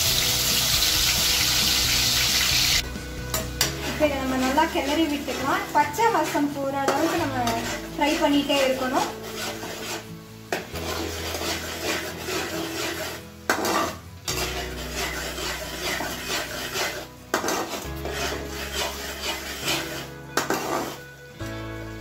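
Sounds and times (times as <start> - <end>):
metal spatula scraping metal pan: 0.0 - 21.4
paste sizzling in oil: 0.0 - 22.0.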